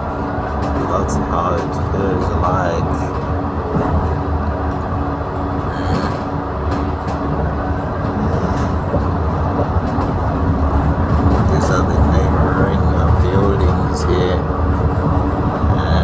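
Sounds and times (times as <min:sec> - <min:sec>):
constant hum: 0:00.0 - 0:16.0
moving train rumble: 0:00.0 - 0:16.0.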